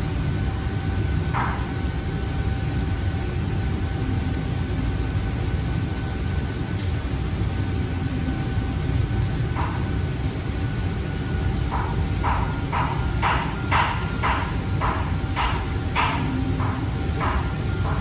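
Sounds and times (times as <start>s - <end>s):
extraction fan rumble: 0.0s - 18.0s
faint steady whine: 0.0s - 18.0s.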